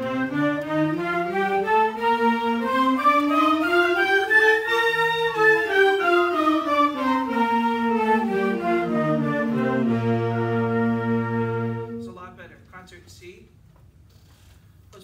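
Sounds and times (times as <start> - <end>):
concert band playing a scale: 0.0 - 12.2.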